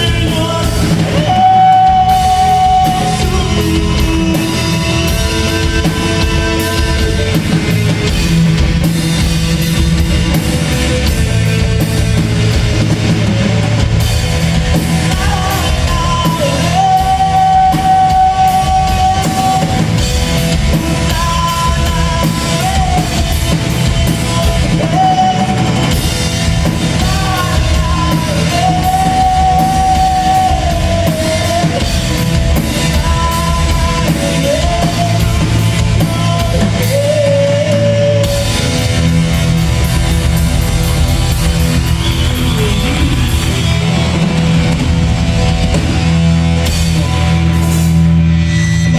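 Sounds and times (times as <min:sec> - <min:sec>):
music with steady drum beat: 0:00.0 - 0:48.9.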